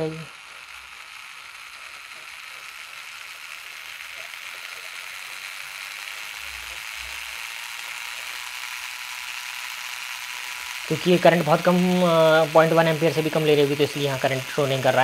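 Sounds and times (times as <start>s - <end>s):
gear motor whirring: 0.0s - 15.0s.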